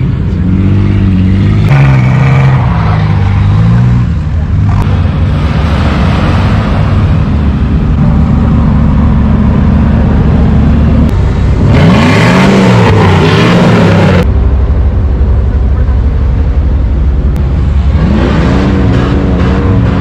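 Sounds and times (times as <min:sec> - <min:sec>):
off-road vehicle engine revving: 0:00.0 - 0:14.3, 0:17.3 - 0:20.0
rushing noise: 0:01.6 - 0:20.0.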